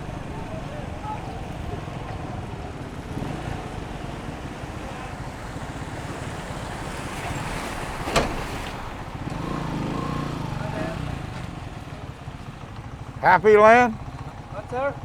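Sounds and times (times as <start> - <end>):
motorcycle engine running: 0.0 - 8.0, 8.9 - 15.0
wind buffeting microphone: 0.0 - 13.0.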